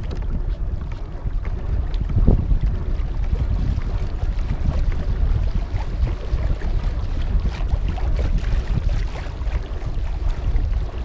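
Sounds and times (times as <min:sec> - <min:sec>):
water splashing against kayak hull: 0:00.0 - 0:11.0
wind buffeting microphone: 0:00.0 - 0:11.0.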